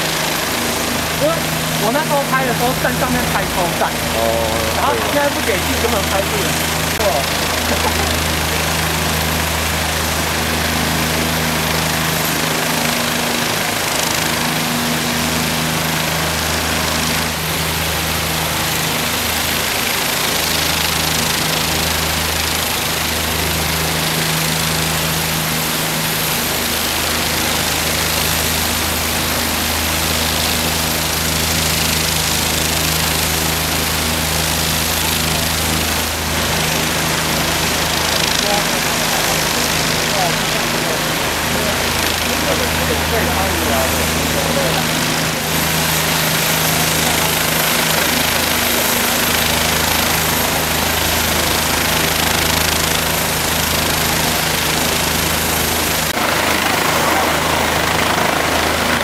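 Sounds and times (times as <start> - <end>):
helicopter engines and rotors humming: 0.0 - 59.0.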